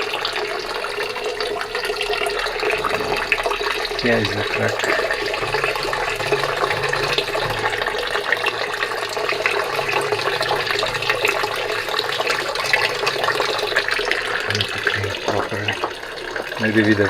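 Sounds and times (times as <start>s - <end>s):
water running from drain outlet: 0.0s - 17.0s.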